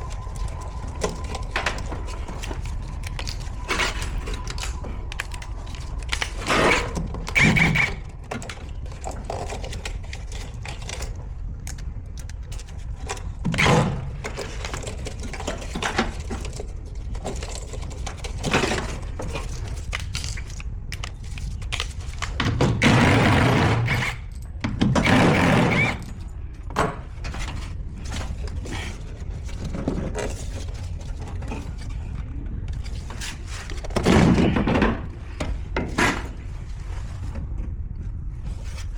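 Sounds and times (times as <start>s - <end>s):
knocks and scrapes of machine parts: 0.0s - 37.8s
steady low rumble: 0.0s - 38.9s.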